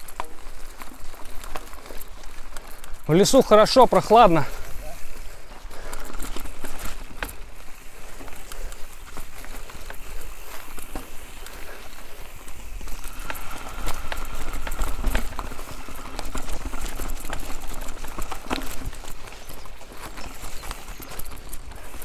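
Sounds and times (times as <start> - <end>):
bike clicks and knocks: 0.0 - 3.1, 5.5 - 22.0.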